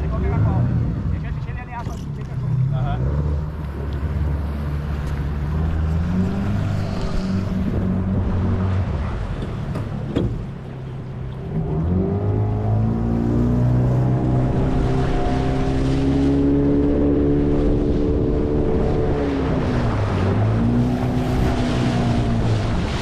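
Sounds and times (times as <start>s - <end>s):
small boat motor running: 1.8s - 23.0s.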